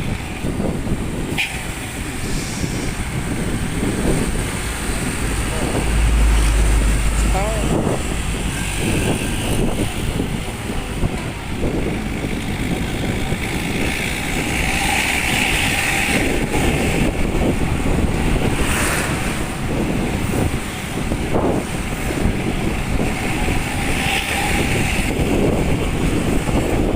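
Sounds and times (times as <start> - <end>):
diesel bus engine running: 0.0 - 26.9
wind buffeting microphone: 0.0 - 26.9.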